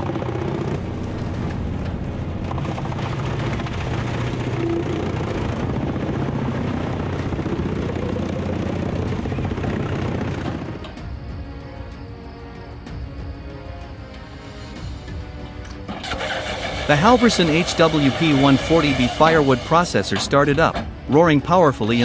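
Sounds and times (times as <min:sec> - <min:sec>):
wood-grinding machine rumble and clatter: 0:00.0 - 0:11.8, 0:13.0 - 0:21.2.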